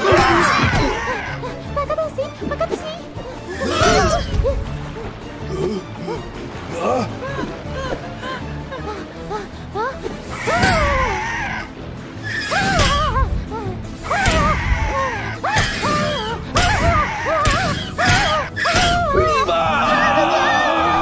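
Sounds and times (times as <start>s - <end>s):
cartoon background music: 0.0s - 21.0s.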